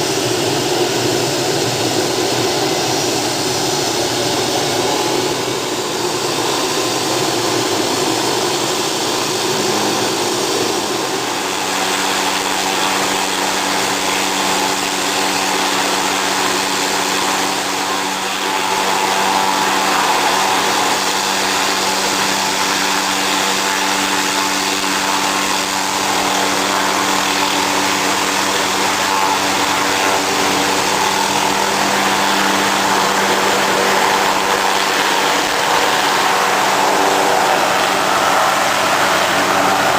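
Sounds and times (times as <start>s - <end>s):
helicopter engine and rotor: 0.0s - 39.9s
steady humming tone: 0.0s - 39.9s.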